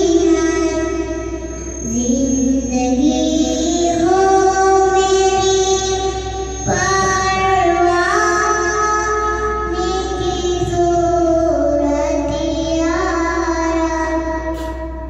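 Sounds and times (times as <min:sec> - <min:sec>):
girl singing a prayer: 0:00.0 - 0:15.0.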